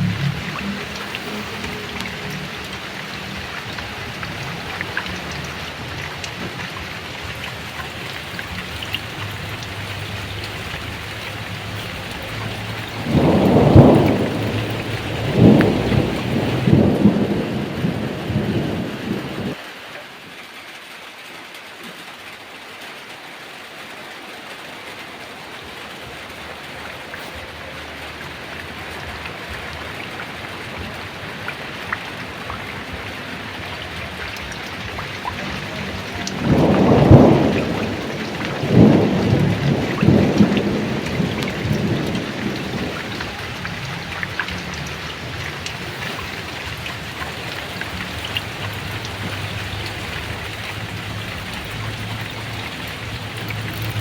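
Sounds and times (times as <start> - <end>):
thunder rumbling: 0.0 - 19.6, 25.4 - 54.0
heavy rain: 0.0 - 54.0.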